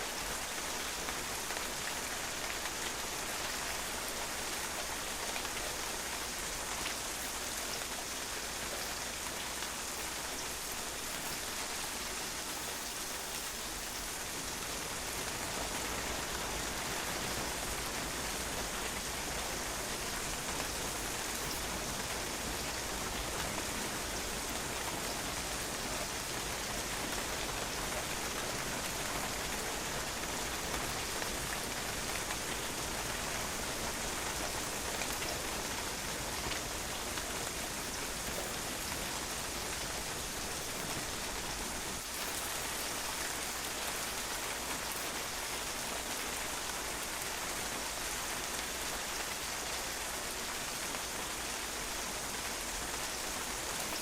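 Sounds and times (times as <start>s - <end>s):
rain pattering on a patio: 0.0s - 54.0s.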